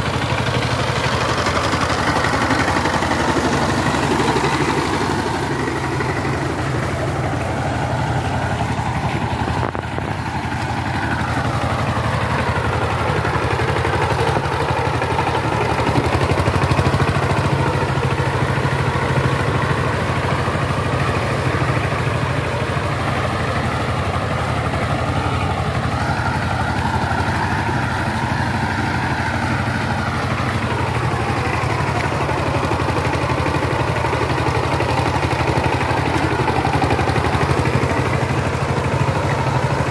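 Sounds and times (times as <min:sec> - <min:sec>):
power tiller diesel engine running: 0:00.0 - 0:39.9.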